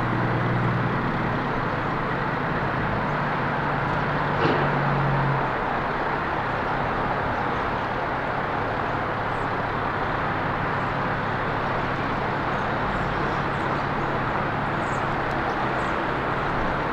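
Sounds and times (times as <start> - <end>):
road traffic rushing hum: 0.0 - 16.9.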